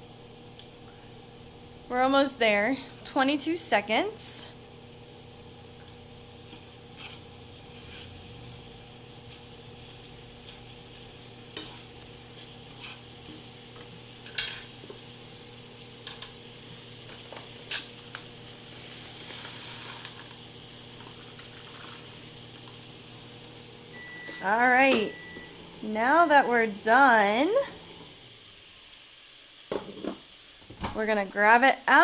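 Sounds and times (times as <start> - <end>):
microwave oven humming: 0.0 - 29.1.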